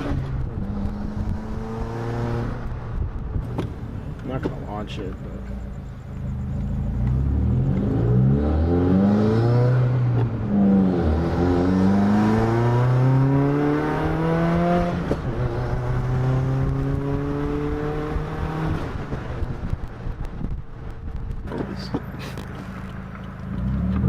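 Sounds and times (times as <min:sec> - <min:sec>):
car engine accelerating hard: 0:00.0 - 0:05.1, 0:06.1 - 0:20.6, 0:21.3 - 0:24.0.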